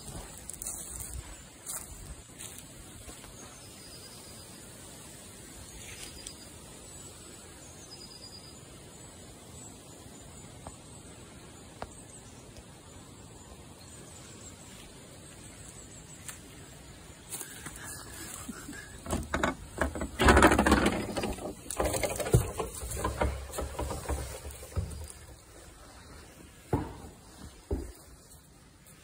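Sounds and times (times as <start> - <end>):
faint outdoor hiss: 0.0 - 29.0.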